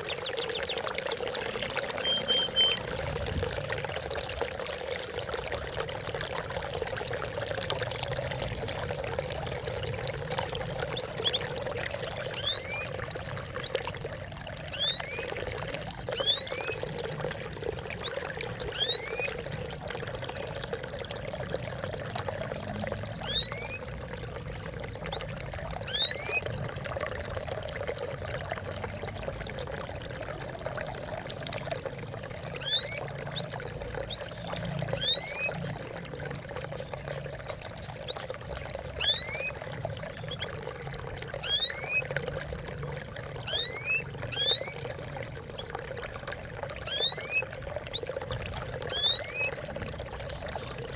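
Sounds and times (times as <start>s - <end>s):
high water drop plinks: 0.0s - 3.7s, 6.9s - 27.3s, 31.2s - 50.9s
babbling water: 0.0s - 50.9s.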